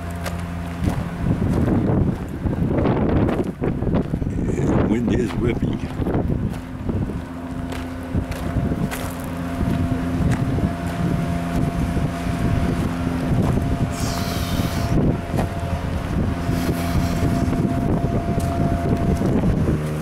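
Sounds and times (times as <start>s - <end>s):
engine idling hum: 0.0s - 20.0s
wind buffeting microphone: 0.0s - 20.0s.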